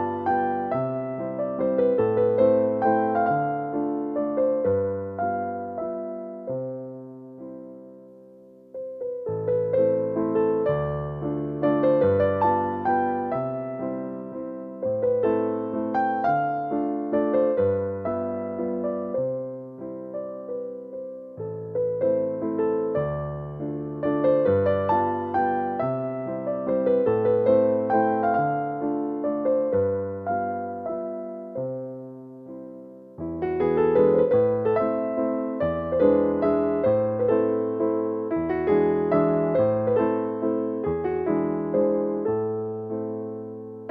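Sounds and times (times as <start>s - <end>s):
calm piano music: 0.0s - 43.9s.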